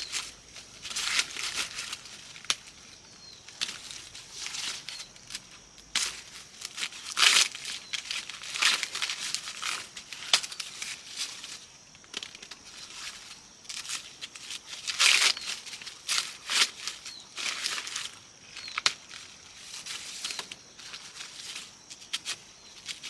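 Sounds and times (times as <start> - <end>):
dry plants rustling and tearing: 0.0 - 23.0.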